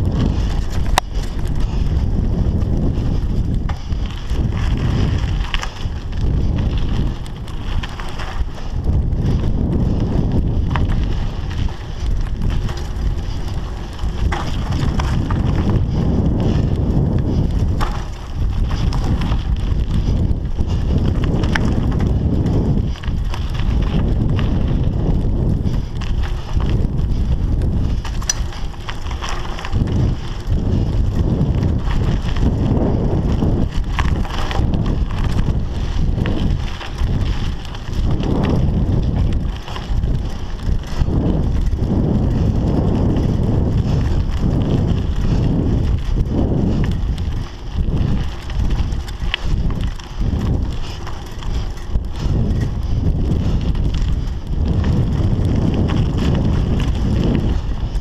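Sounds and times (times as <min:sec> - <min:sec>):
bicycle tyre noise on dirt: 0:00.0 - 0:58.0
bike knocks and rattles: 0:00.0 - 0:58.0
wind noise on microphone: 0:00.0 - 0:58.0.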